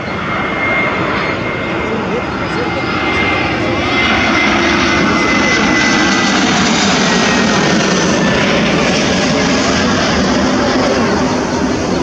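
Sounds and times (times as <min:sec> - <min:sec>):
high jet engine whine: 0:00.0 - 0:12.0
jet airliner passing overhead: 0:00.0 - 0:12.0.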